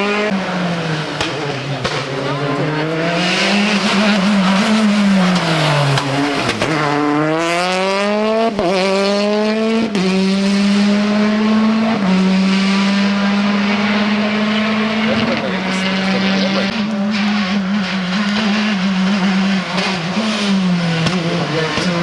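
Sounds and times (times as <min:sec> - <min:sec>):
rally car engine accelerating: 0:00.0 - 0:22.0.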